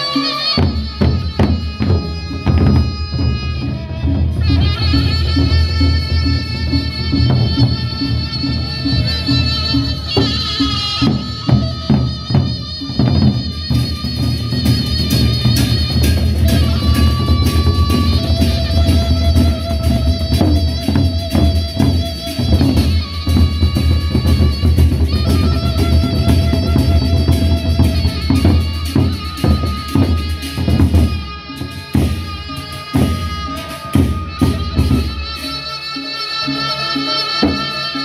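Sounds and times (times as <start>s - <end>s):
cymbals: 0.0s - 38.0s
barrel drums beaten: 0.5s - 35.5s.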